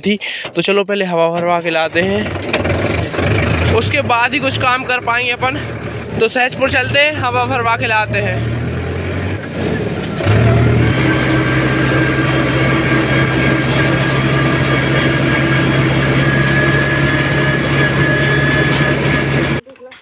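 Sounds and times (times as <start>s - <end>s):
tractor diesel engine running: 1.4s - 19.6s
high whine: 3.0s - 19.6s.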